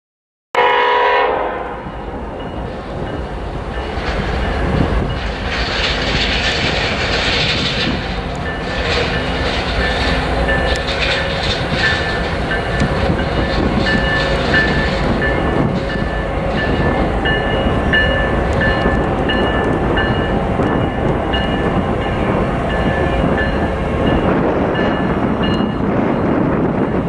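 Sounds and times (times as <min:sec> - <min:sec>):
diesel locomotives: 0:00.6 - 0:27.0
wheel and rail noise: 0:01.6 - 0:27.0.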